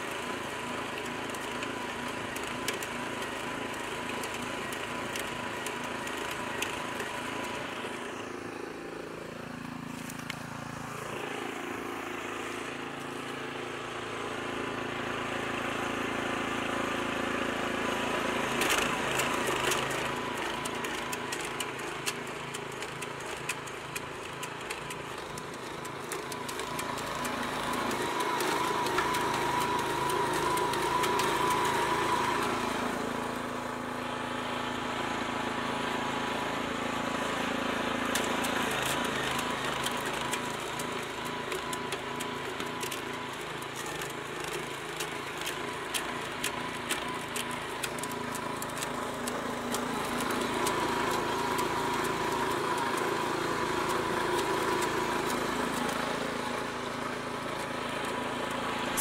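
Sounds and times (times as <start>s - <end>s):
branch chipper engine running: 0.0s - 59.0s.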